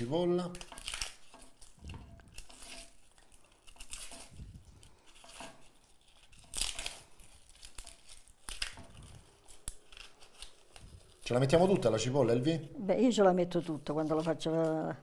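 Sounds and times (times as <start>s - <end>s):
onion skin crackling and tearing: 0.0s - 15.0s.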